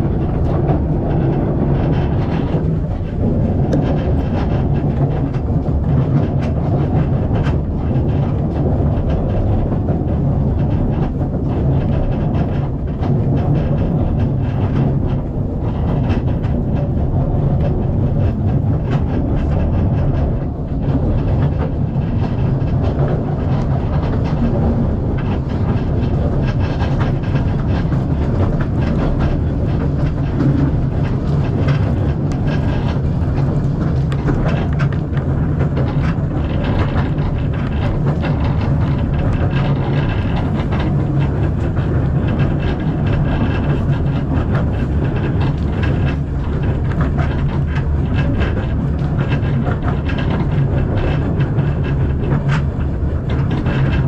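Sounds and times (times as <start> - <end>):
train carriage rumble: 0.0 - 54.0
wheel clatter over rails: 0.0 - 54.0.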